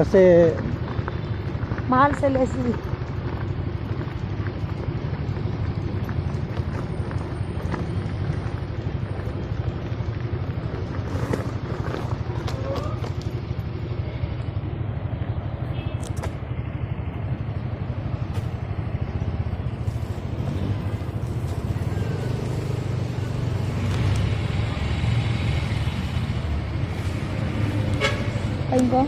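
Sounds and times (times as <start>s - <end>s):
car engine rumble: 0.0s - 29.0s
road noise: 0.0s - 29.0s.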